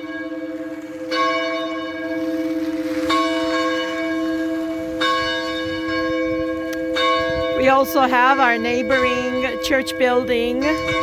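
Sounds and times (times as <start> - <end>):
church bell tolling: 0.0 - 11.0.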